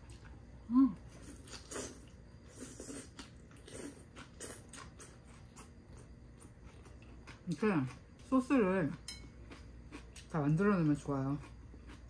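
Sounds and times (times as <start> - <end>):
person chewing noodles: 0.0 - 8.3, 9.4 - 10.4, 11.3 - 12.0.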